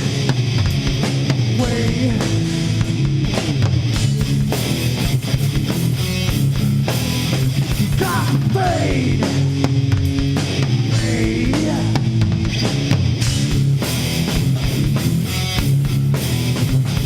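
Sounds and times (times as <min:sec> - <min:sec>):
electric lead guitar bending: 0:00.0 - 0:17.0
rock band playing: 0:00.0 - 0:17.0.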